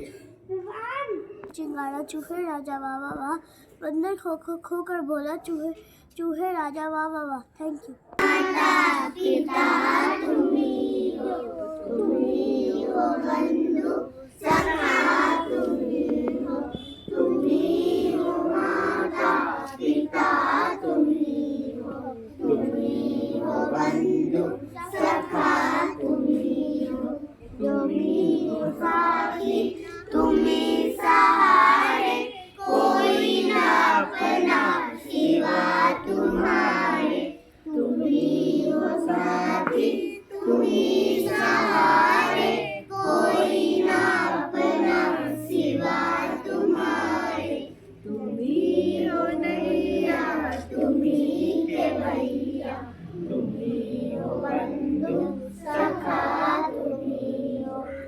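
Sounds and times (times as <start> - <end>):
children singing: 8.2 - 58.0.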